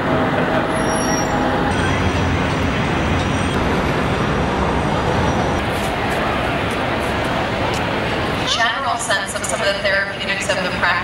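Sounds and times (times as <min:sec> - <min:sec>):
passing cars and buses: 0:00.0 - 0:11.0.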